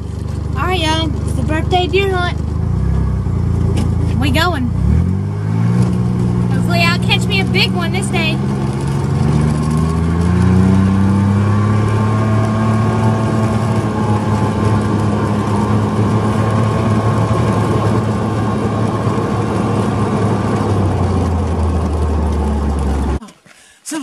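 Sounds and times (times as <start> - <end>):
off-road vehicle engine: 0.0 - 24.0.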